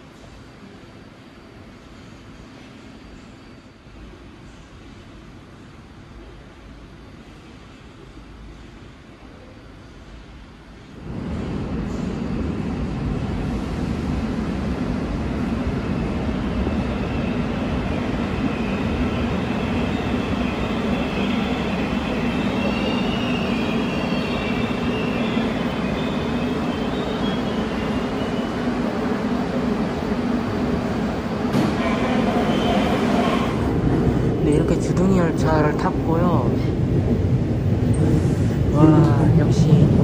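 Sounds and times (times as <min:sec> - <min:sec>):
subway train braking to a stop: 0:00.0 - 0:40.0.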